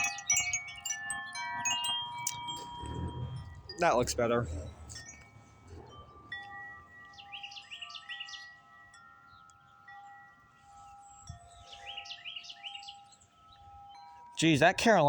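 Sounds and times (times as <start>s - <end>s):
wind chimes ringing: 0.0s - 15.0s
wren singing: 0.0s - 15.0s.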